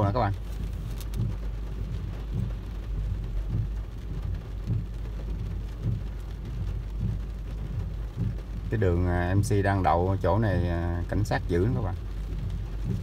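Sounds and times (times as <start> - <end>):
heavy rain on a car: 0.0 - 13.0
steady low rumble: 0.0 - 13.0
windshield wiper thumps: 0.0 - 13.0.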